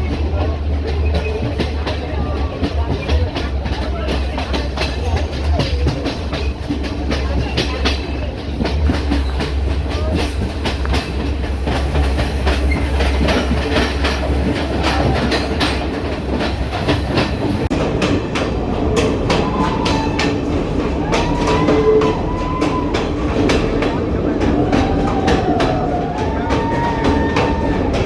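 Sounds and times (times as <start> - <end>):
train rumbling on rails: 0.0 - 28.0
wheels clicking over rail joints: 0.0 - 28.0.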